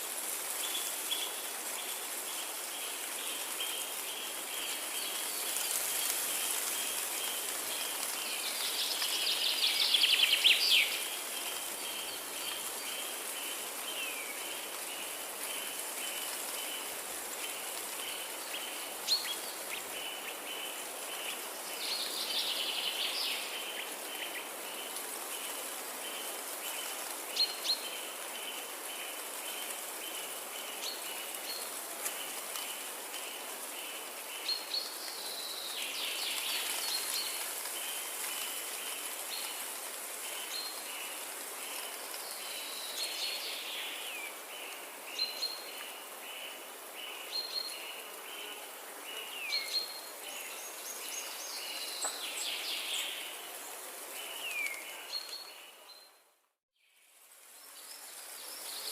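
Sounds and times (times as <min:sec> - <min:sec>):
steady hiss: 0:00.0 - 0:56.0, 0:56.9 - 0:58.9.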